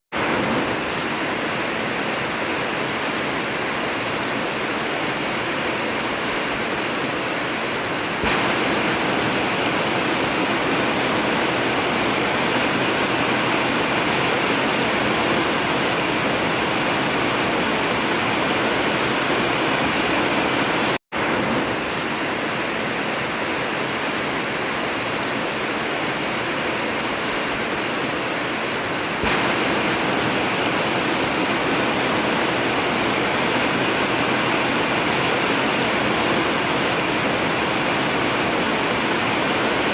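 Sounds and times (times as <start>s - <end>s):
heavy rain on tin roof: 0.1s - 39.9s.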